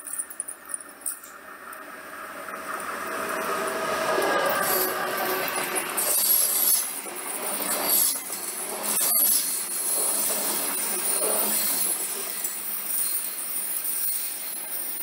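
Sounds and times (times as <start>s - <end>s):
train wheels rushing on rails: 1.5s - 15.0s.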